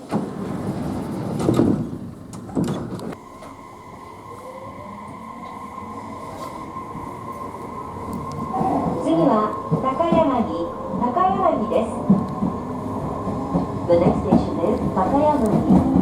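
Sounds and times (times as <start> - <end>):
steady train tone: 0.0 - 16.0
train doors shutting: 0.0 - 16.0.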